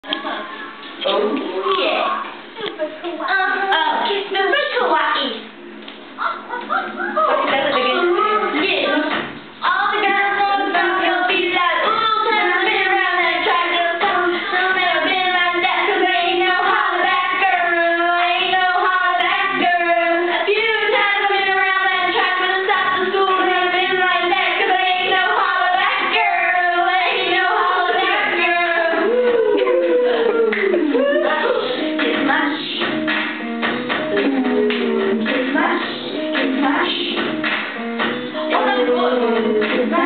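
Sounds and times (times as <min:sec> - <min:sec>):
girls singing into microphones: 0:07.0 - 0:33.2, 0:33.8 - 0:40.0.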